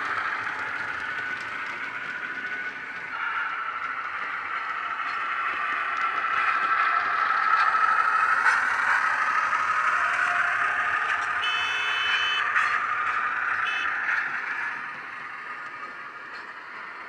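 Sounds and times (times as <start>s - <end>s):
model diesel engine sound: 0.0s - 17.0s
wagon wheels on track: 0.0s - 17.0s.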